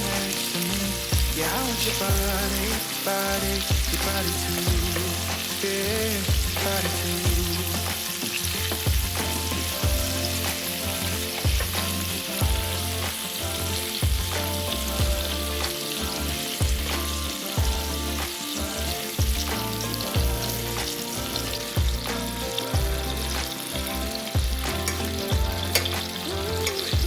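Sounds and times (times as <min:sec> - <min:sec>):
food sizzling in a frying pan: 0:00.0 - 0:27.0
pop music with drum beat: 0:00.0 - 0:27.0.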